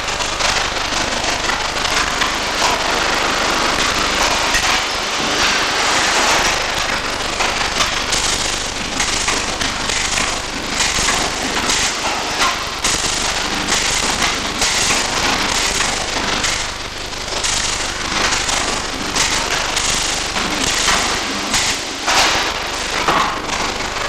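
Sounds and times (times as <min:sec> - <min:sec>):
arc welding crackle: 0:00.0 - 0:24.0.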